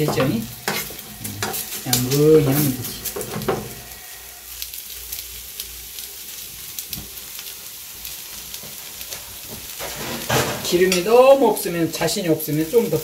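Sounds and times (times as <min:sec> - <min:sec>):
pancake sizzling in oil: 0:00.0 - 0:13.0.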